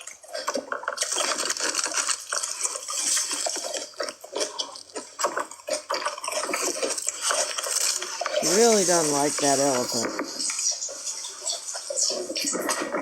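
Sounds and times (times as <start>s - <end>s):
wet chewing and slurping: 0.0s - 13.0s.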